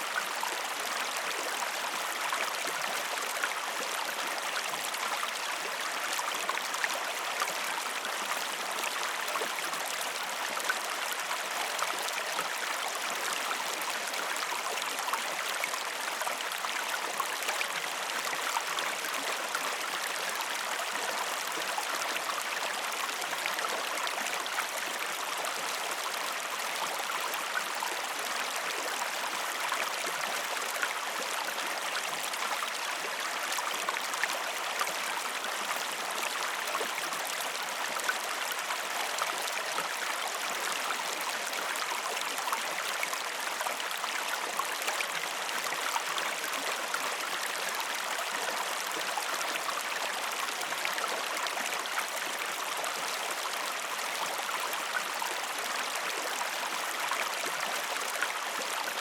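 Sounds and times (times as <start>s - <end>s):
river water rushing and babbling: 0.0s - 59.0s.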